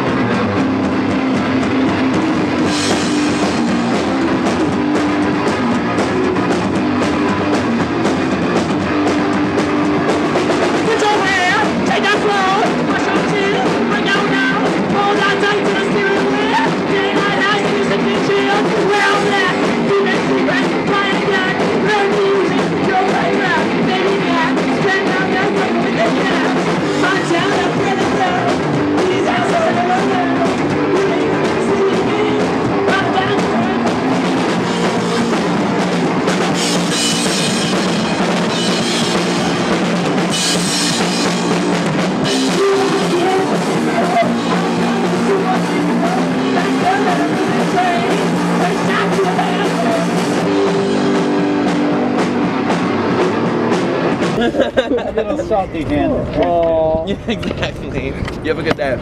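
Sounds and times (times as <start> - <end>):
rock music with drum kit: 0.0 - 55.8.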